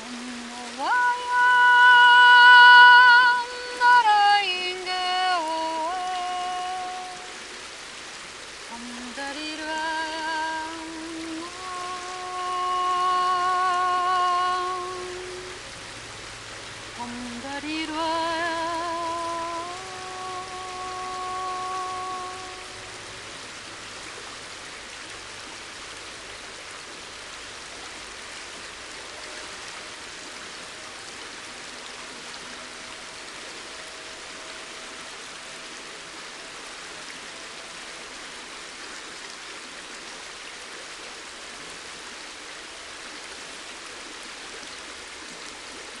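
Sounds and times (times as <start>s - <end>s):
river water flowing: 0.0s - 46.0s.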